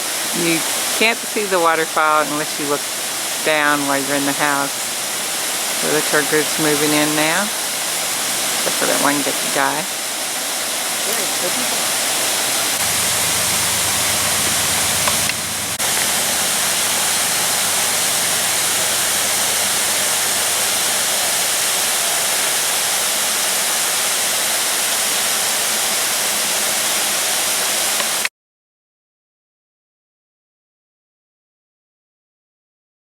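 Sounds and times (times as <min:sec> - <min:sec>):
waterfall rushing: 0:00.0 - 0:28.3.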